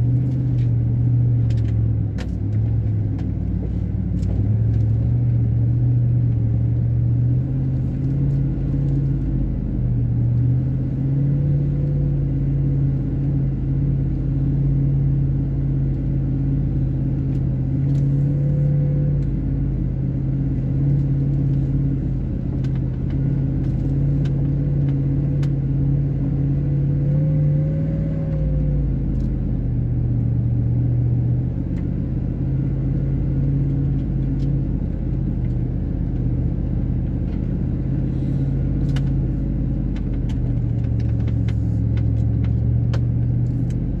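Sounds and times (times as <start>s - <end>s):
vehicle engine running at low speed: 0.0s - 44.0s.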